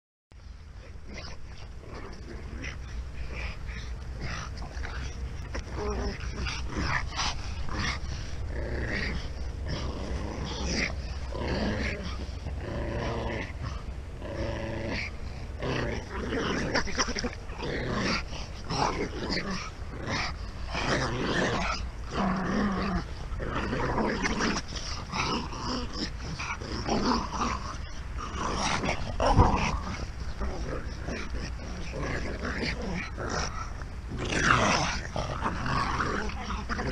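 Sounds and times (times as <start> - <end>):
dogs growling: 0.7 - 36.9.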